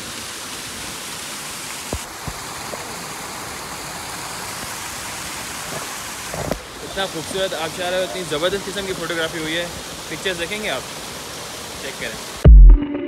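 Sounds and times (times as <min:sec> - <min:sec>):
waterfall splashing over rocks: 0:00.0 - 0:12.5.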